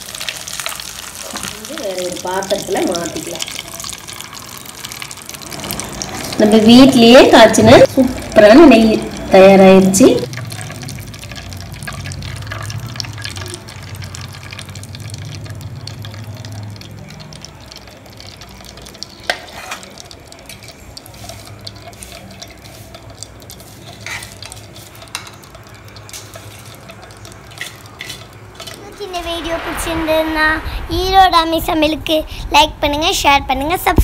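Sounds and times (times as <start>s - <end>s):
liquid pouring into steel bowl: 0.0s - 9.4s, 10.1s - 30.1s.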